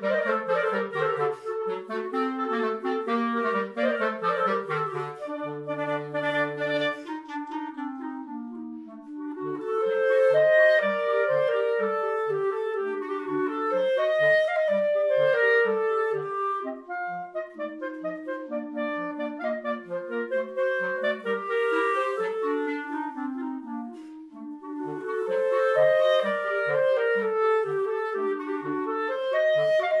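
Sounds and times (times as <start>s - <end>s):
clarinets playing a pasodoble: 0.0s - 30.0s
low clarinet off-beat notes: 0.0s - 30.0s.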